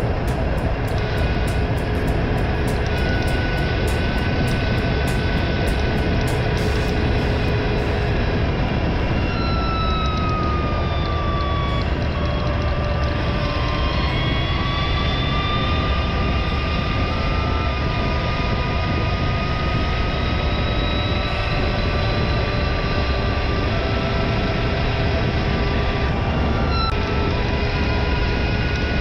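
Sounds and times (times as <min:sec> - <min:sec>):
faint whine: 0:00.0 - 0:29.0
motorcycle engine: 0:00.0 - 0:29.0
wind and road noise: 0:00.0 - 0:29.0.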